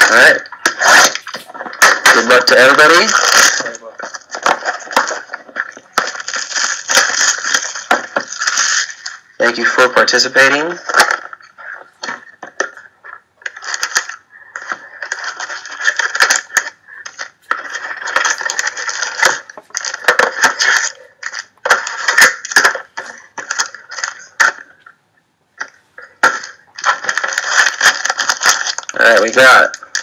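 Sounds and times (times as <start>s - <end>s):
plastic wrap crinkling: 0.0s - 25.0s, 25.6s - 30.0s.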